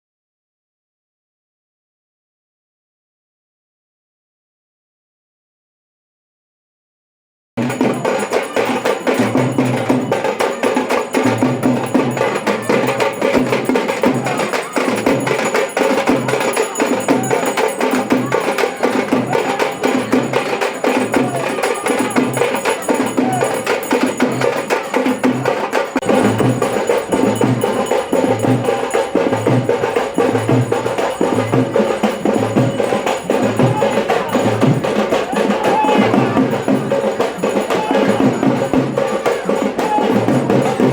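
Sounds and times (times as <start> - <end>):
music with steady drum beat: 7.6 - 40.9.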